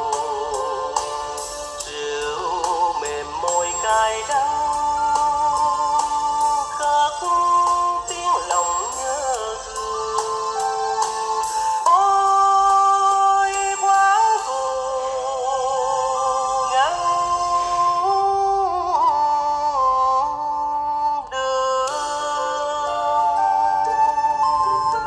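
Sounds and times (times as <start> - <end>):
light musical accompaniment: 0.0 - 25.0
melody with sliding vibrato notes: 0.0 - 25.0.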